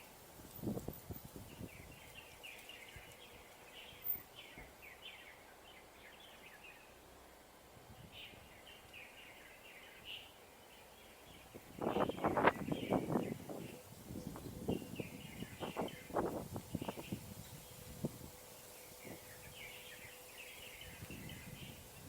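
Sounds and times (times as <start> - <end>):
faint birds chirping: 0.0 - 22.0
low background noise: 0.0 - 22.0.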